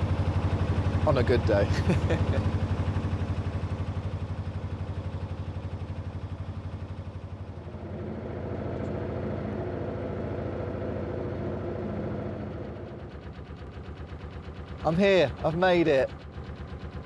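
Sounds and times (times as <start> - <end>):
diesel boat engine running: 0.0 - 17.0.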